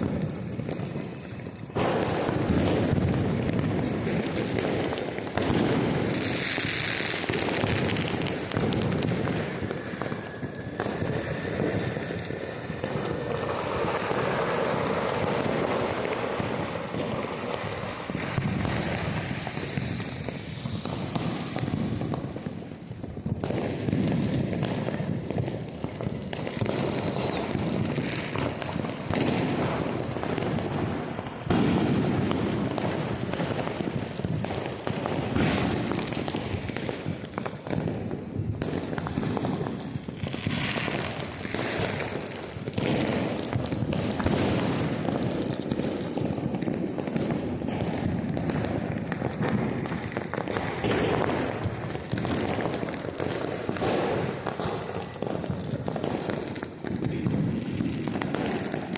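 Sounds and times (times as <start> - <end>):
firecrackers crackling and banging: 0.0 - 58.9.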